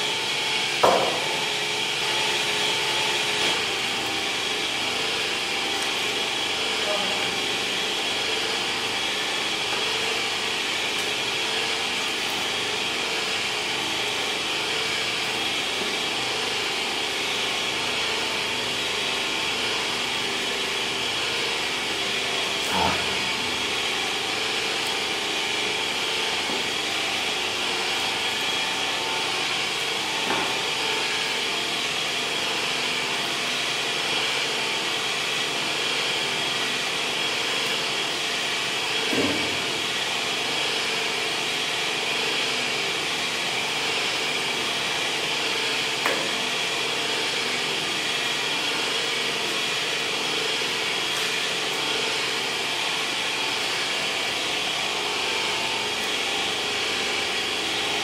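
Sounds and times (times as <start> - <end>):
machine whining and humming: 0.0 - 58.0.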